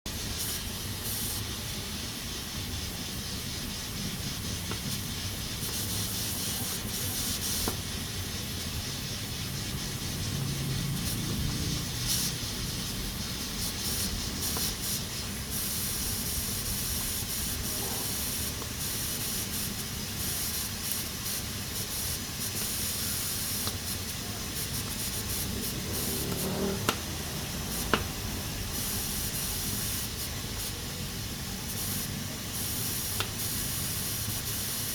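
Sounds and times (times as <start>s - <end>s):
pressure cooker steam hissing: 0.1s - 34.9s.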